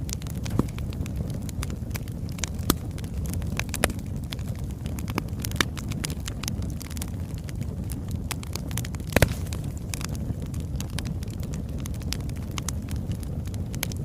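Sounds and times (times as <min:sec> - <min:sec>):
burning logs crackling and popping: 0:00.0 - 0:14.0
fire rumbling: 0:00.0 - 0:14.0.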